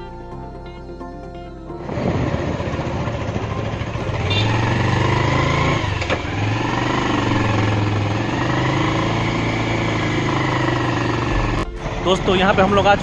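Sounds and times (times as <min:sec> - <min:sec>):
motorcycle engine running: 0:01.8 - 0:13.0.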